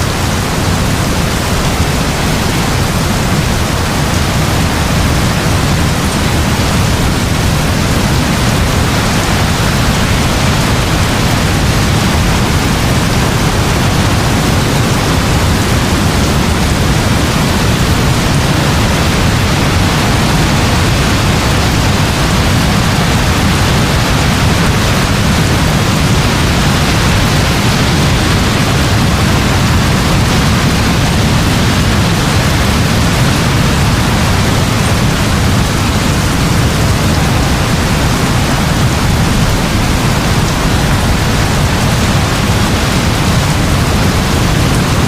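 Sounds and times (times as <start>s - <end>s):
heavy rain hiss: 0.0s - 45.0s.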